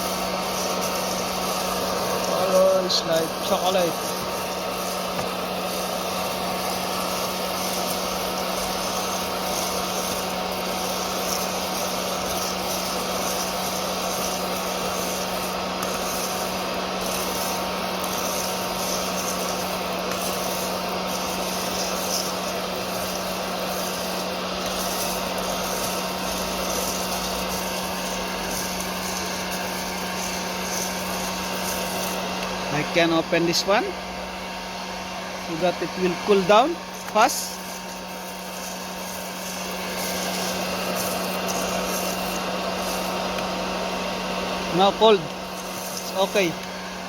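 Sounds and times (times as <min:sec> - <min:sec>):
fan humming with whine: 0:00.0 - 0:47.0.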